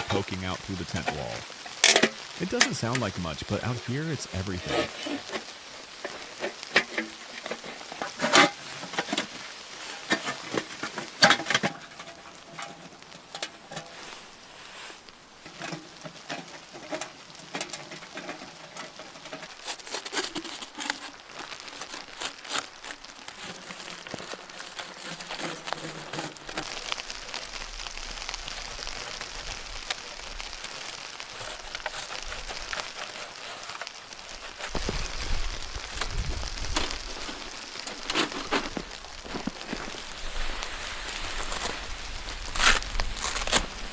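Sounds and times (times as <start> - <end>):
rustling and crinkling: 0.0 - 43.9
steady pattering hiss: 0.0 - 43.9.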